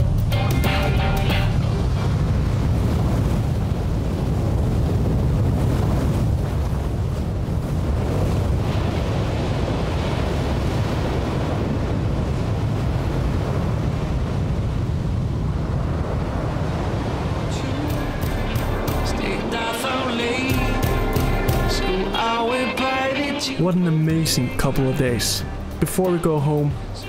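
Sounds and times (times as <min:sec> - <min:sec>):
wind on microphone: 0:00.0 - 0:23.1
ocean surf breaking: 0:00.0 - 0:27.0.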